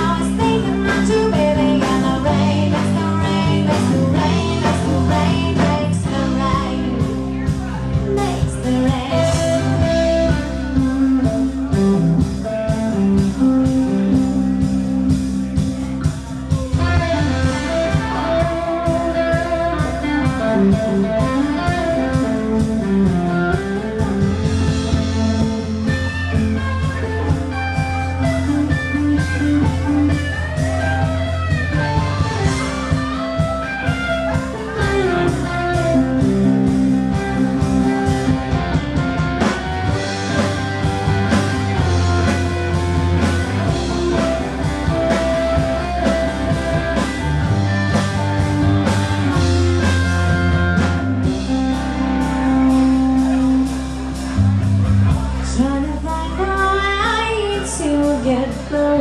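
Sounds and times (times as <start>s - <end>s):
electric guitar solo: 0.0s - 16.0s, 16.7s - 59.0s
steady drum beat: 0.0s - 55.6s
bass: 0.0s - 59.0s.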